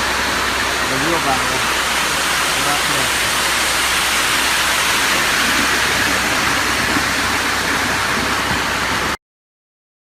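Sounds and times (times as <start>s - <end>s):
low engine hum: 0.0s - 9.2s
wet concrete pouring down chute: 0.0s - 9.2s.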